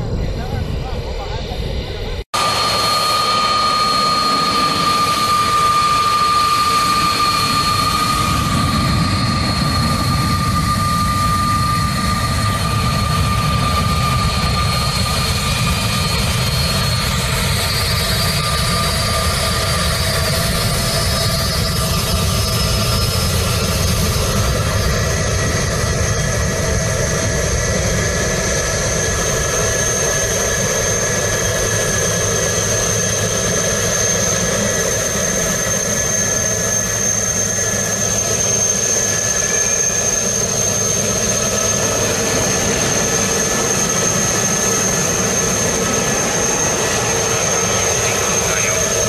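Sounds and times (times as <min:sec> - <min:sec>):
jet airliner engines running: 0:00.0 - 0:49.0.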